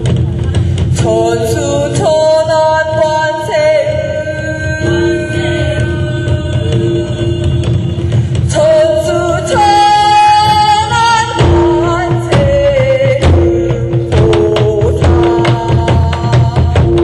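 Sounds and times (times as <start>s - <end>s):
drum ensemble playing: 0.0s - 17.0s
person singing: 0.9s - 17.0s.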